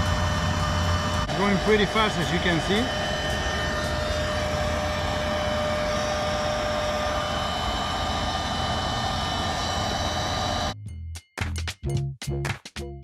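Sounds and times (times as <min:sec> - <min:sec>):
electric inflation pump whining: 0:00.0 - 0:10.8.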